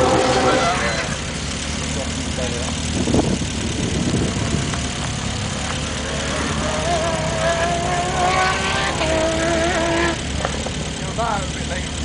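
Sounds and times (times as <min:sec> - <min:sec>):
car engine running hard: 0:00.0 - 0:12.0.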